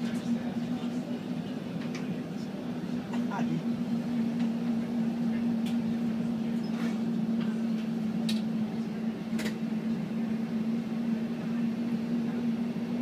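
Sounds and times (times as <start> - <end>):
bus running hum: 0.0 - 13.0.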